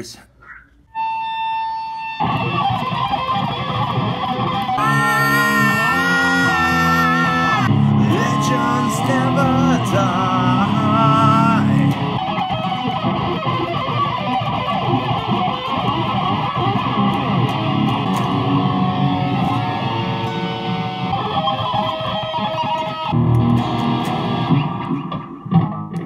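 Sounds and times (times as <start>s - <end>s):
electric guitar solo: 0.9s - 26.0s.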